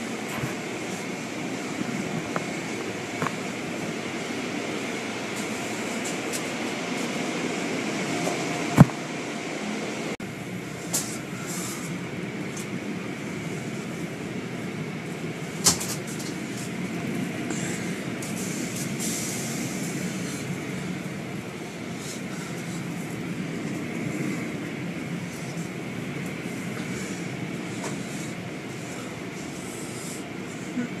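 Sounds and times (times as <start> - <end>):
car wash machinery rumbling: 0.0 - 31.0.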